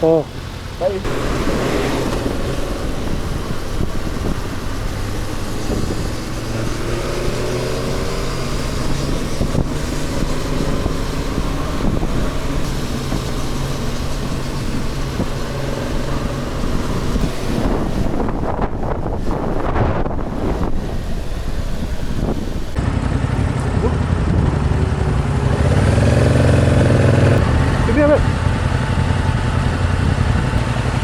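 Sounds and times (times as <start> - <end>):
motorcycle engine accelerating: 0.0 - 31.0
road and wind noise: 0.0 - 31.0.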